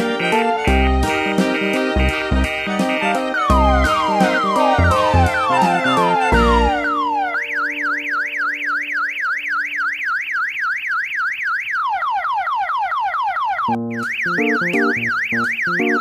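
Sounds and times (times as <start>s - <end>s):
warbling electronic siren horn: 0.2s - 16.0s.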